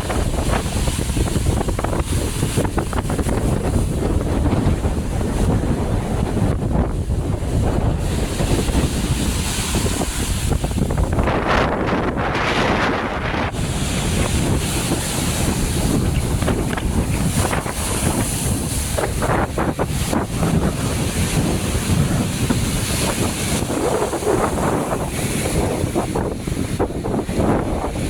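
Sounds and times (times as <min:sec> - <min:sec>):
sea surf: 0:00.0 - 0:28.0
wind buffeting microphone: 0:00.0 - 0:28.0.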